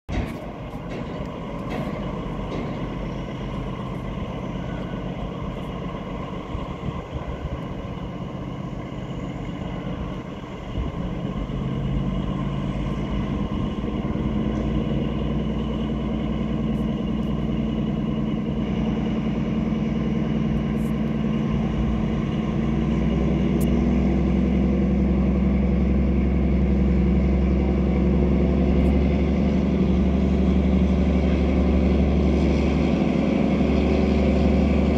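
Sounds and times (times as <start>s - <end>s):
diesel locomotives droning: 0.1s - 34.9s.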